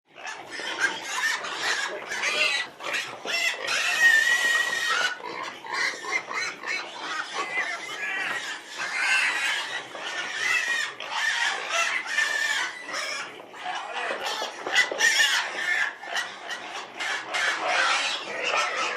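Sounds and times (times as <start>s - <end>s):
pig squealing: 0.1s - 18.9s.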